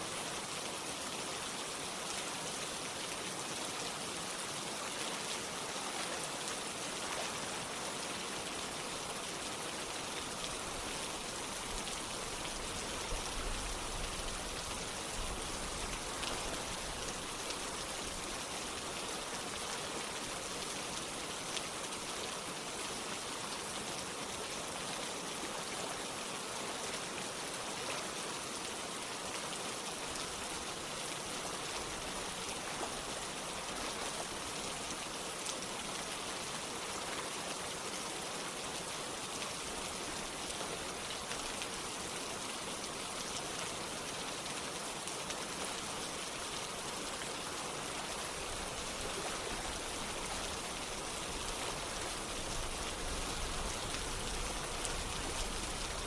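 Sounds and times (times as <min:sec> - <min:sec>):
running water: 0:00.0 - 0:56.0
steady rain: 0:00.0 - 0:56.0.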